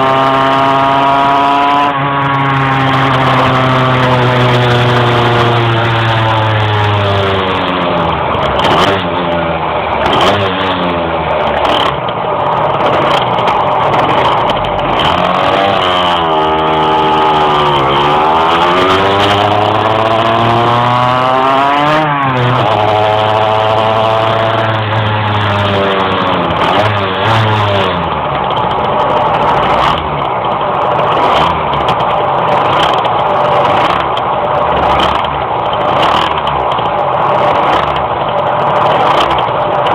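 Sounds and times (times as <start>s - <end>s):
two-stroke moped engine revving: 0.0s - 39.9s.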